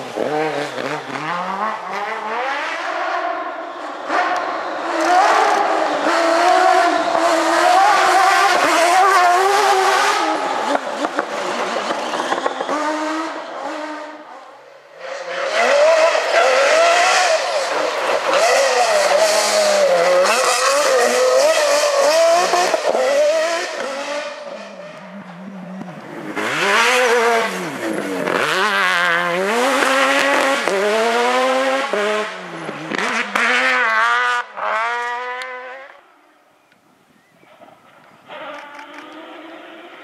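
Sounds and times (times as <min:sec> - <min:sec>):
rally car engine passing: 0:00.0 - 0:36.1, 0:39.1 - 0:40.0
rally car engine revving: 0:00.0 - 0:36.1, 0:38.2 - 0:40.0.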